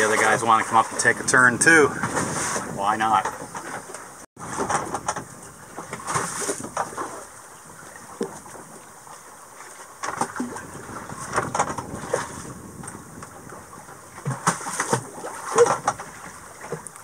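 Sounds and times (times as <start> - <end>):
water sloshing against a hull: 0.0 - 17.0.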